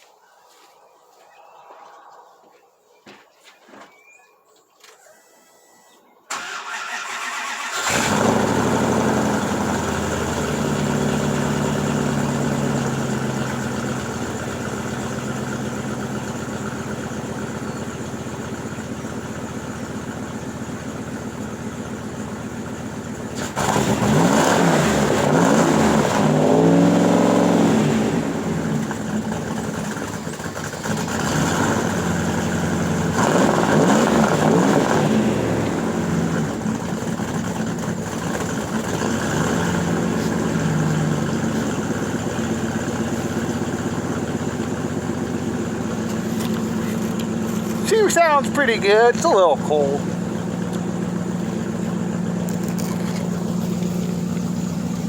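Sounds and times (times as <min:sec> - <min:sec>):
engine idling and revving: 0:06.3 - 0:55.0.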